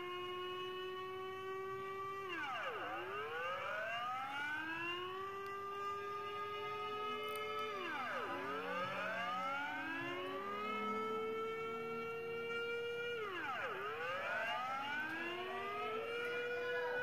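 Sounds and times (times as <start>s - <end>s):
air-raid warning siren: 0.0s - 17.0s.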